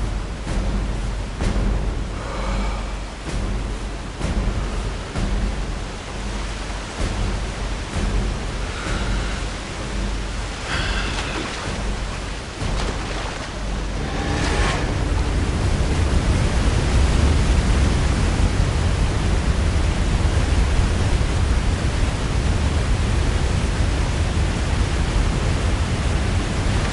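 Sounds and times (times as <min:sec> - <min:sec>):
waterfall and rapids roaring: 0:00.0 - 0:26.9.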